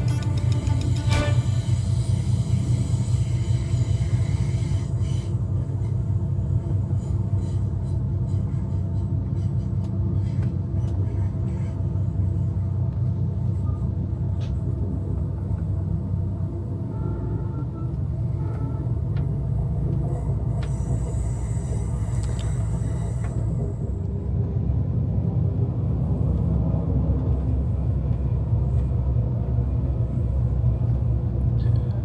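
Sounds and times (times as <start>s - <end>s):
passenger train rumbling: 0.0s - 32.0s.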